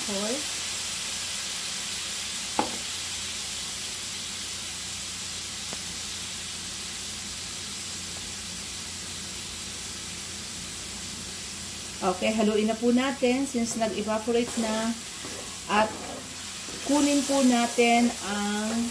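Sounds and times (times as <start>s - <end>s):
food sizzling in a skillet: 0.0s - 18.9s.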